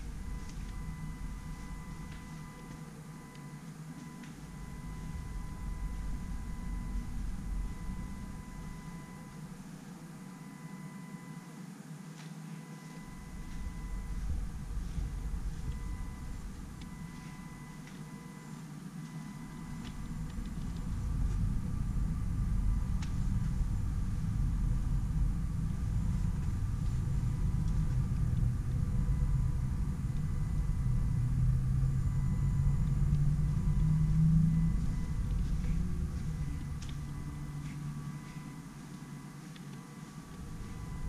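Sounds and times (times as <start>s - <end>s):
vehicle engine rising in pitch: 0.0s - 9.7s, 13.0s - 18.4s, 19.0s - 41.0s
road traffic rumble: 0.0s - 10.3s, 12.9s - 41.0s.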